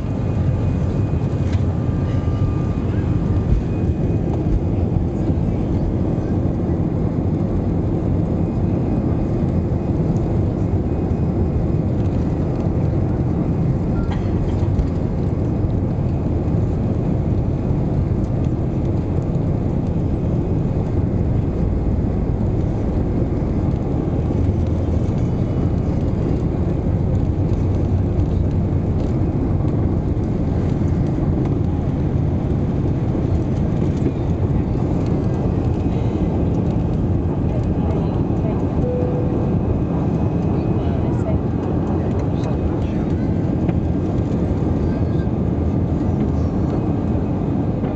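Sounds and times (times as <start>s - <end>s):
jet engines rumbling: 0.0s - 47.9s
runway noise: 0.0s - 47.9s.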